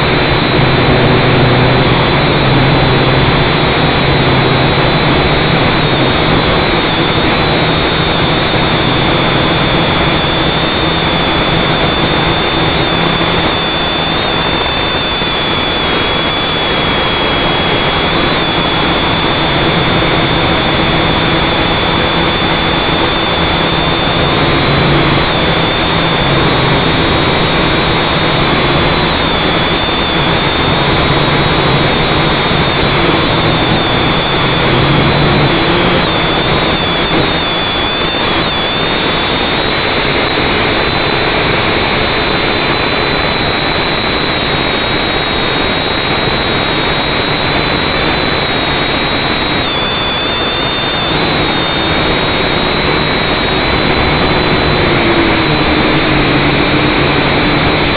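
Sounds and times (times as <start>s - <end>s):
drone motors buzzing and whining: 0.0s - 57.9s.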